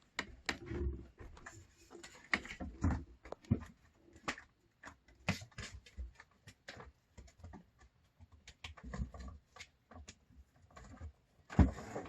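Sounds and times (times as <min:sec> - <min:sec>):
kitten paws tapping and scuffling: 0:00.0 - 0:11.9.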